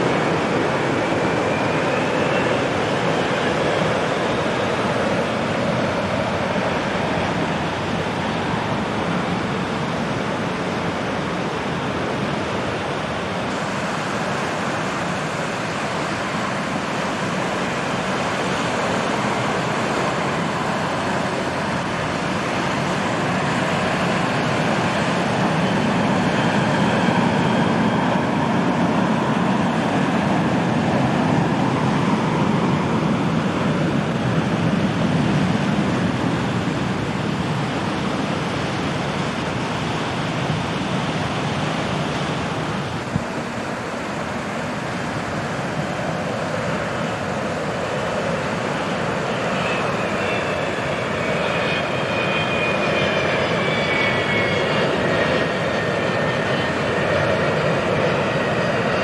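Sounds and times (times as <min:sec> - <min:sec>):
jet airliner engines rushing: 0:00.0 - 0:59.0.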